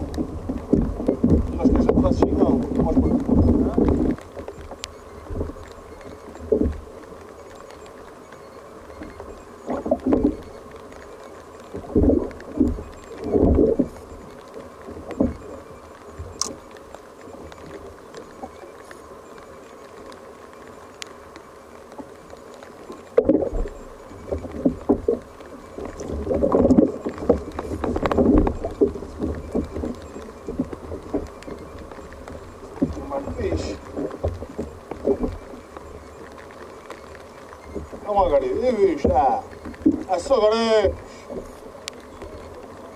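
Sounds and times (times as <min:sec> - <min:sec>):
small waves slapping kayak hull: 0:00.0 - 0:42.9.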